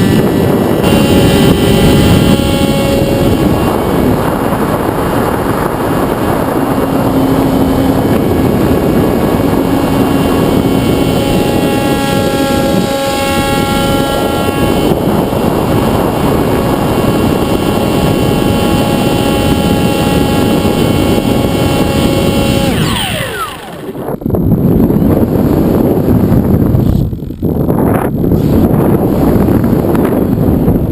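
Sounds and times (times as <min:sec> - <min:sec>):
electric motor and propeller whine: 0:00.0 - 0:30.9
wind rush on microphone: 0:00.0 - 0:30.9.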